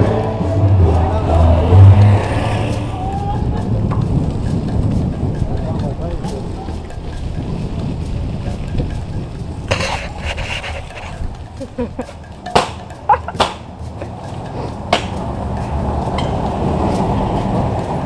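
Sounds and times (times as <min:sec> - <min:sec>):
bikes clicking and knocking: 0:00.0 - 0:18.0
street noise: 0:00.0 - 0:18.0
wind: 0:00.0 - 0:18.0.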